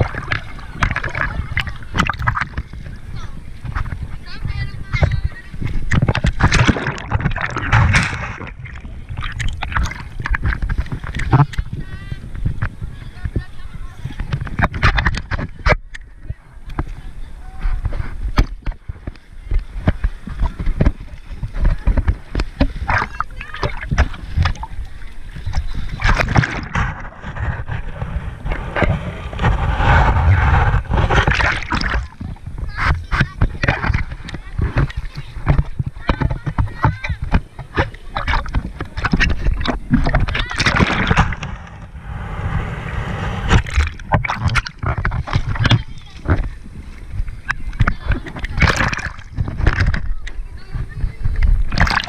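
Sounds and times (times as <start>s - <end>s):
muffled underwater rushing and gurgling: 0.0s - 52.0s
water splashing: 0.0s - 52.0s.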